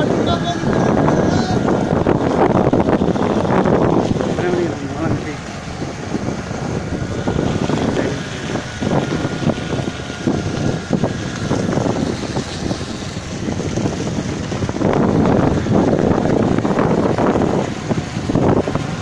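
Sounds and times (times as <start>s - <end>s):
road noise: 0.0s - 19.0s
vehicle engine: 0.0s - 19.0s
wind buffeting microphone: 0.0s - 19.0s.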